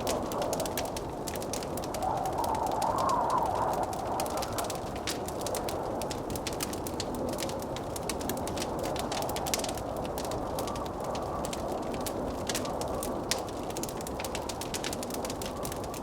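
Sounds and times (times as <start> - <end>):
blizzard wind rushing: 0.0 - 16.0
wood fire crackling: 0.0 - 16.0.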